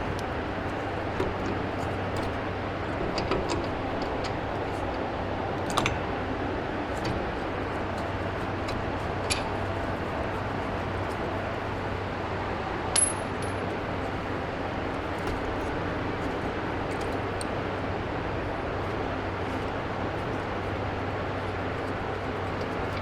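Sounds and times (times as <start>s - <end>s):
shop heater humming: 0.0s - 23.0s.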